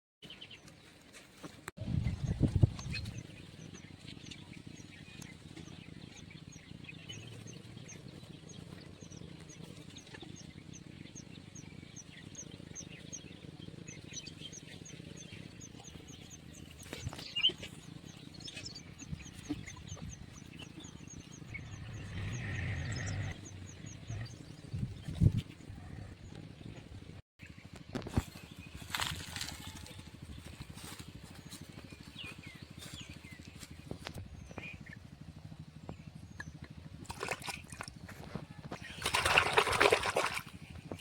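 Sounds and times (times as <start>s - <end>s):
low steady rumble: 1.8s - 41.0s.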